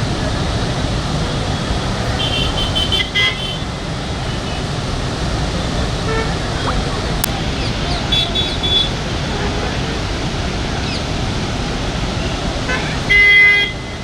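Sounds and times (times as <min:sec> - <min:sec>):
water rushing through barrage: 0:00.0 - 0:14.0.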